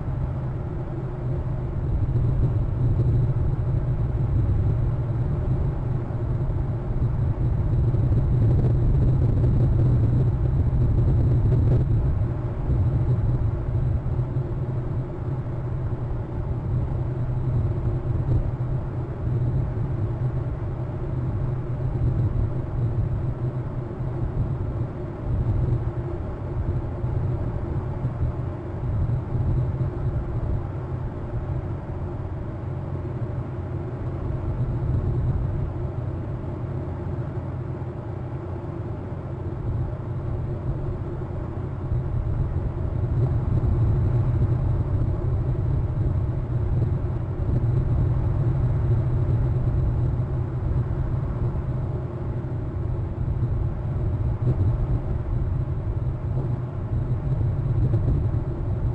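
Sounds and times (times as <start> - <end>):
faint high whine: 0.0 - 58.9
low outdoor rumble: 0.0 - 58.9.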